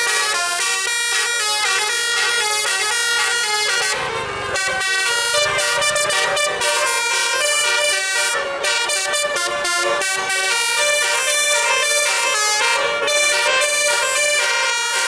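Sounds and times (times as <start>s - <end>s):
bus horn playing melody: 0.0s - 15.0s.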